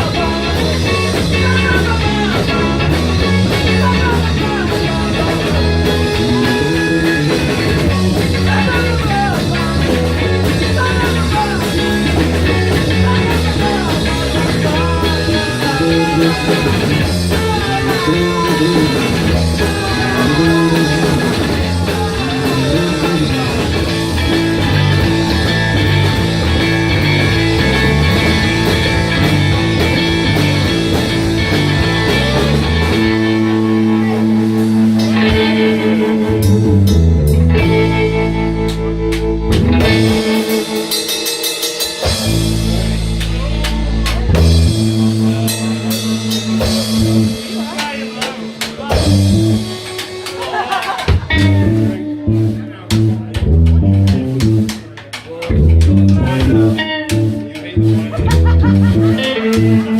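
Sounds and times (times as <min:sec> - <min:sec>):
bass guitar: 0:00.0 - 0:59.9
drums: 0:00.0 - 0:59.9
lead electric guitar: 0:00.0 - 0:59.9.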